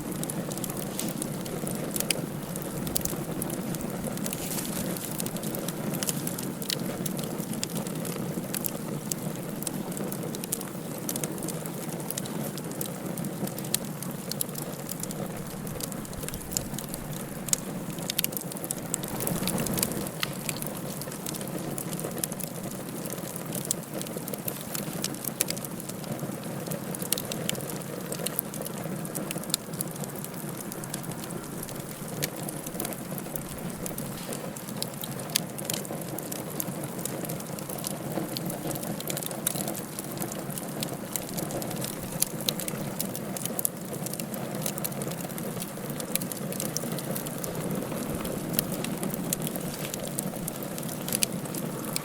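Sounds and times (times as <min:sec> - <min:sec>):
sharp pops and snaps of fire: 0:00.0 - 0:52.0
wood fire crackling: 0:00.0 - 0:52.0.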